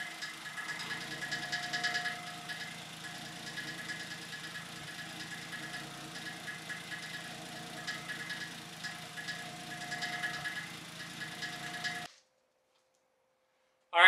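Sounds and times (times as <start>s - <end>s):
car engine idling: 0.0s - 12.1s.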